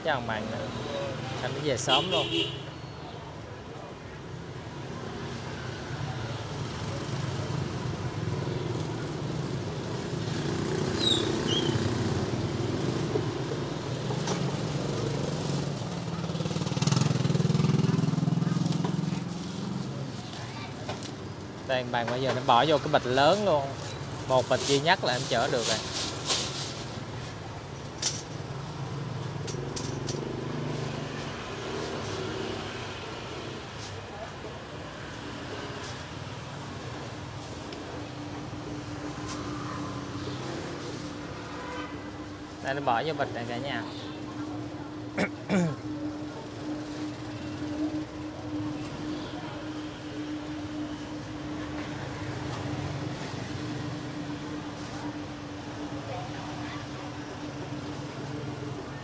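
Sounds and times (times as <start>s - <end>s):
low street rumble: 0.0s - 59.0s.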